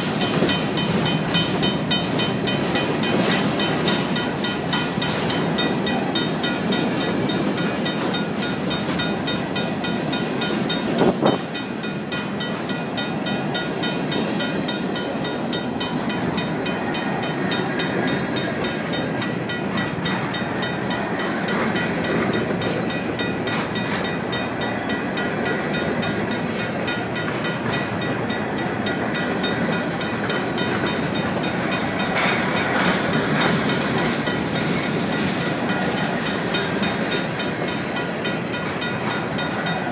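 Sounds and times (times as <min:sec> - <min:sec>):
crossing bell ringing: 0:00.0 - 0:39.9
train wheels rumbling and clattering: 0:00.0 - 0:39.9.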